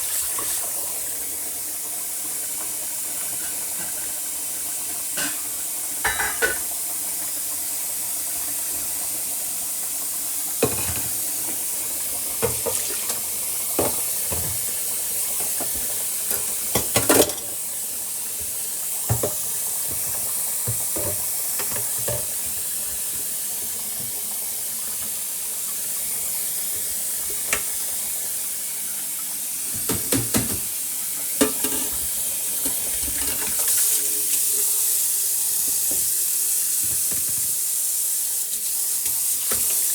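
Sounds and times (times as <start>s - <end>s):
chicken sizzling in a pan: 0.0s - 39.9s.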